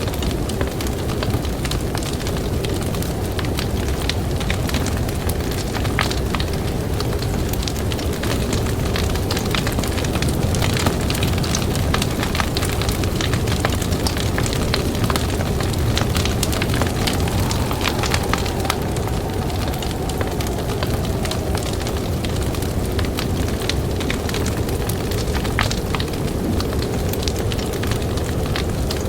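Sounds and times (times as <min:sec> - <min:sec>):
campfire crackling: 0:00.1 - 0:29.0
blizzard wind rushing: 0:01.8 - 0:29.0.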